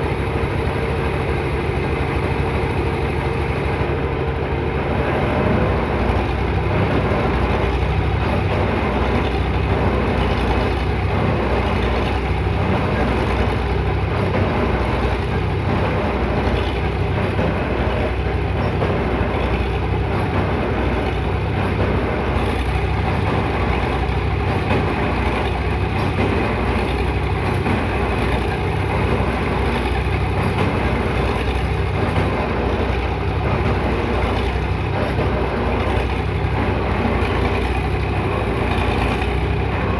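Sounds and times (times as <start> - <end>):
piling rig engine running: 0.0 - 39.9.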